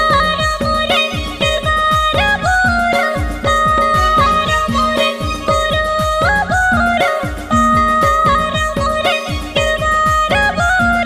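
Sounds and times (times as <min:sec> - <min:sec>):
fast drum beat: 0:00.0 - 0:11.0.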